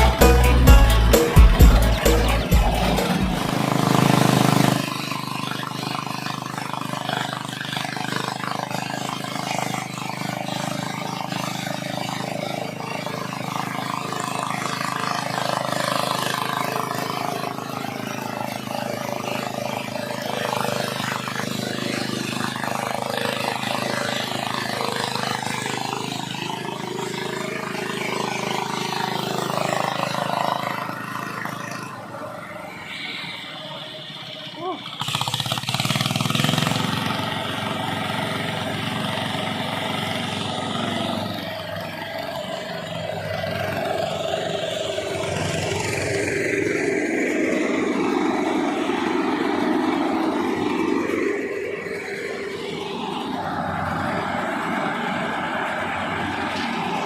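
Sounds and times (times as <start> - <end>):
corn thresher engine drone: 0.0 - 57.0.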